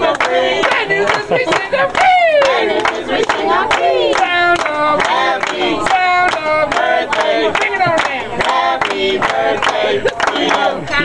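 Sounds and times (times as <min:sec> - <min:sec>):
group singing in unison: 0:00.0 - 0:11.0
people clapping: 0:00.0 - 0:11.0.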